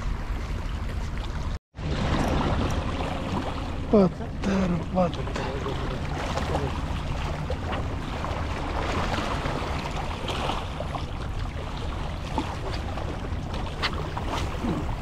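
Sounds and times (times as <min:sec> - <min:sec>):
boat engine hum: 0:00.0 - 0:15.0
water washing past hull: 0:00.0 - 0:15.0.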